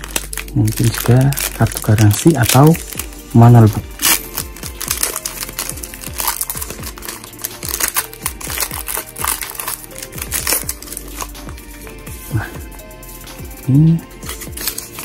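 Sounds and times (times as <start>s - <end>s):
background music: 0.0s - 15.0s
paper packaging rustling: 0.0s - 15.0s.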